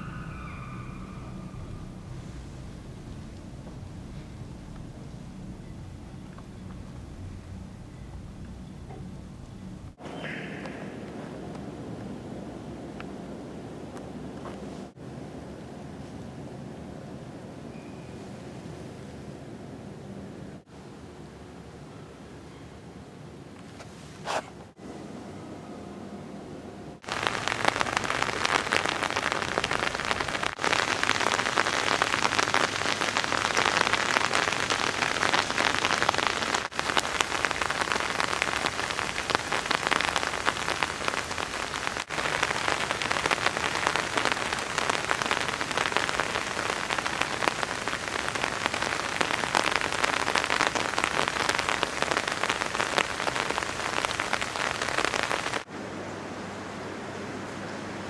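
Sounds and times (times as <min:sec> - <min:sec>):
heavy rain patter: 0:00.0 - 0:16.4, 0:27.0 - 0:58.0.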